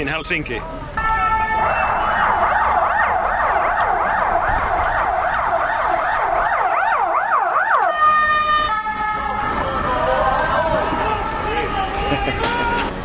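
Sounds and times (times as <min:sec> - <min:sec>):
siren wailing: 0:01.0 - 0:12.9.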